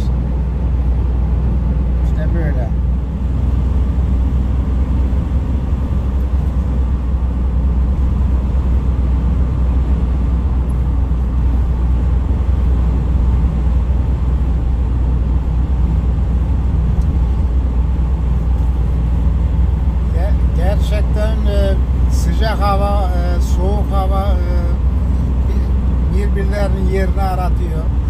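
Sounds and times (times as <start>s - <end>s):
road and engine rumble in van: 0.0s - 28.0s.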